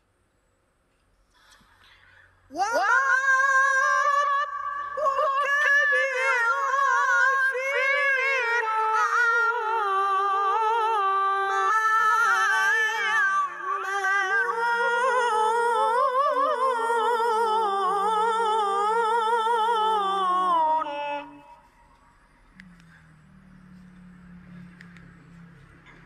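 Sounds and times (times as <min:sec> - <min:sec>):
young man chanting melodically: 0:02.5 - 0:23.9.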